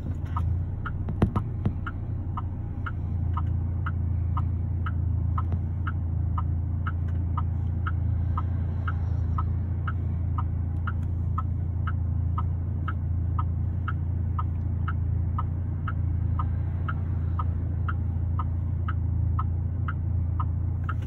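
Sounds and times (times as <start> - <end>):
car engine idling: 0.0 - 21.0
turn signal ticking: 0.0 - 21.0.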